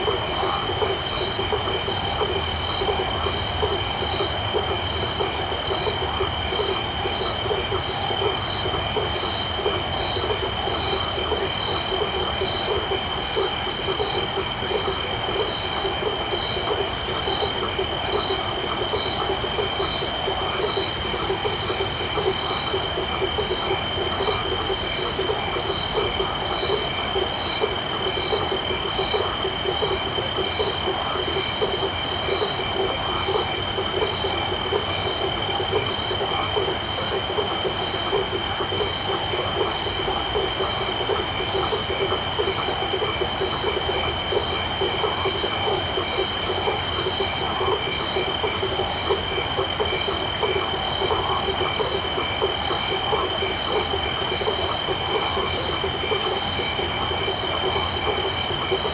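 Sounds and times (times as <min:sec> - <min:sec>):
crickets trilling: 0:00.0 - 0:58.9
frogs calling in rapid pulses: 0:00.0 - 0:58.9.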